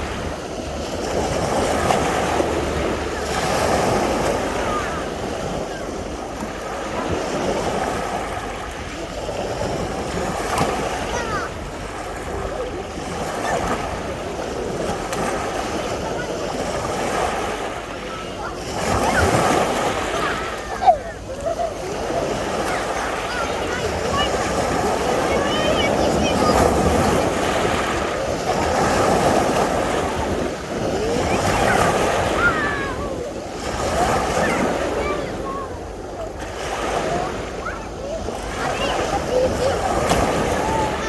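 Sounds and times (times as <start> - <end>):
faint voices of people: 0.0 - 41.0
sea waves washing onto beach: 0.0 - 41.0
wind buffeting microphone: 0.0 - 41.0.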